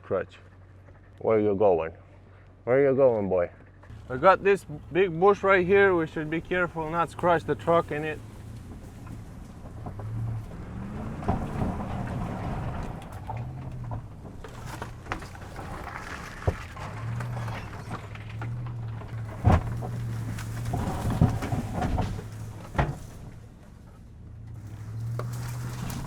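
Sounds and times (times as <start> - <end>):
branches scraping against truck: 3.7 - 26.0.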